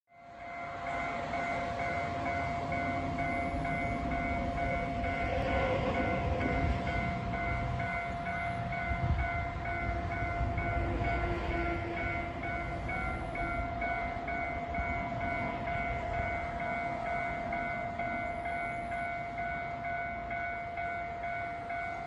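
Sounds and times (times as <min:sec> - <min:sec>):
railway warning bell ringing: 0:00.1 - 0:22.0
steady tone: 0:00.2 - 0:22.0.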